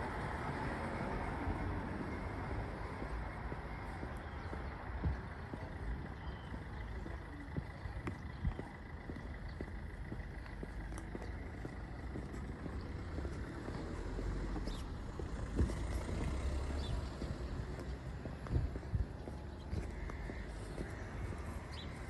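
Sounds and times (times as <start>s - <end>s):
distant traffic rumble: 0.0s - 22.0s
footsteps on stone paving: 2.8s - 22.0s.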